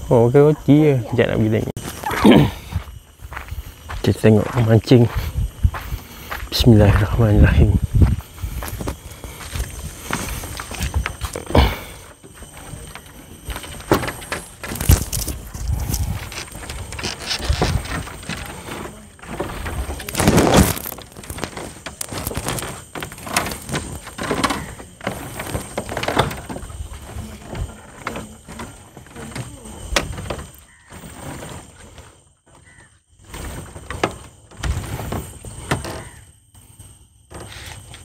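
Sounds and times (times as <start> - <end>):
footsteps on wooden planks: 1.8 - 36.2.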